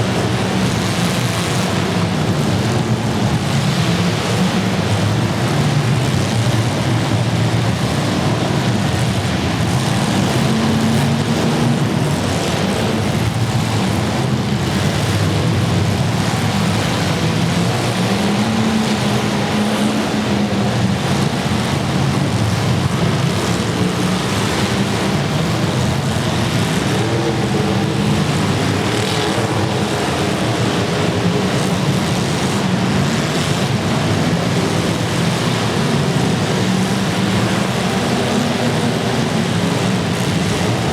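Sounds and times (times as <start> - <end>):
many car engines revving: 0.0 - 40.9.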